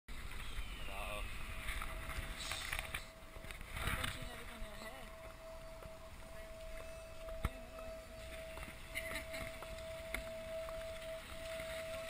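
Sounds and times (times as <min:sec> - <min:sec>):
faint steady whine: 0:00.1 - 0:12.0
low street rumble: 0:00.1 - 0:12.0.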